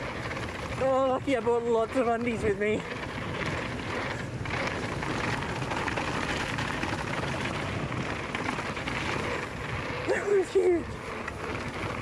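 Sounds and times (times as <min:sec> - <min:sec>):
bike tyres rolling over dirt: 0:00.0 - 0:12.0.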